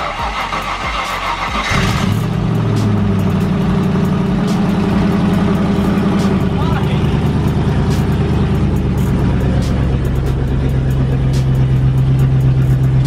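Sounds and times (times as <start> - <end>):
engine cranking on starter: 0.0 - 13.0
engine running steadily: 0.0 - 13.0.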